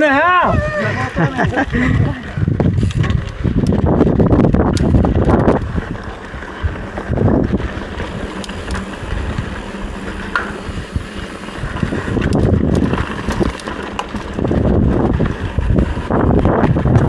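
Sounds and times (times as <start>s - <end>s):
bike clicks: 0.0s - 17.0s
wind buffeting microphone: 0.0s - 17.0s.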